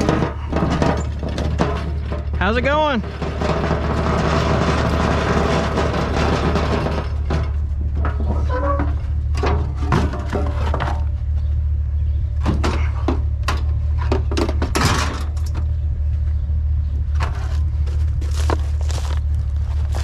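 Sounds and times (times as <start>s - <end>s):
junk being handled clanking: 0.0s - 15.8s, 16.8s - 20.0s
steady low hum: 0.0s - 20.0s.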